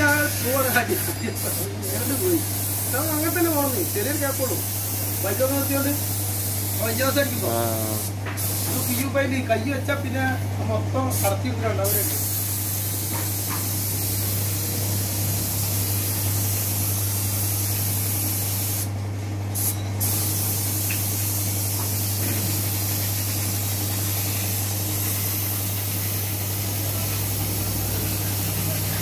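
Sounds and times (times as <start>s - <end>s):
paint spray gun hissing: 0.0s - 9.2s, 11.1s - 18.9s, 19.6s - 29.0s.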